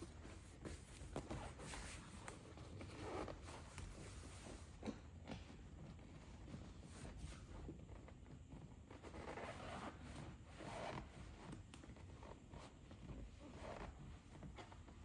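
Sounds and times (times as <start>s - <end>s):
fabric rustling and scraping: 0.0s - 15.0s.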